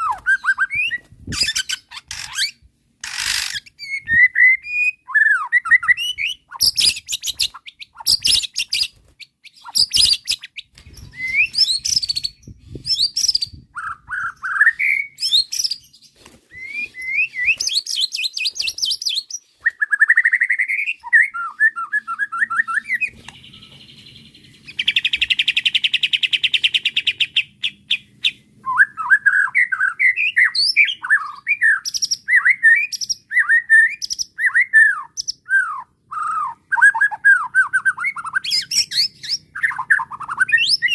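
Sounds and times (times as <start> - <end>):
bird singing whistled phrases: 0.0 - 1.9, 3.7 - 8.9, 9.5 - 15.9, 16.5 - 40.9.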